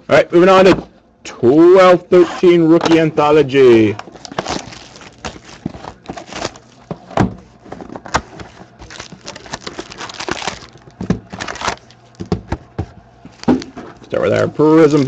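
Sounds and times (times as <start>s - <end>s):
card packs rustling and scraping: 2.4s - 15.0s.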